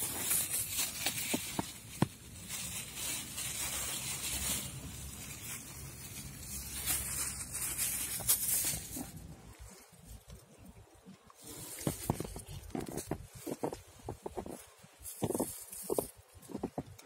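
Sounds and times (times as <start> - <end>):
plastic bag of cat food rustling: 0.0 - 10.5, 11.4 - 16.9.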